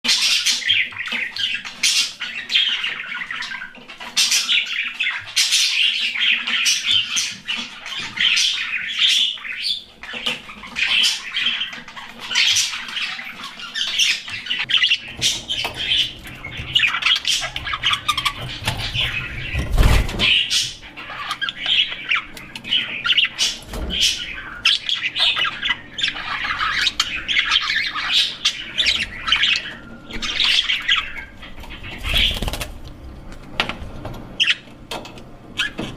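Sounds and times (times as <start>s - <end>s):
budgerigars chirping and squawking: 0.0s - 35.9s.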